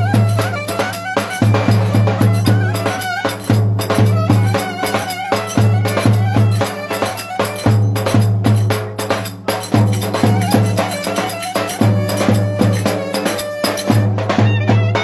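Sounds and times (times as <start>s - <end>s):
folk dance band music: 0.0s - 15.0s.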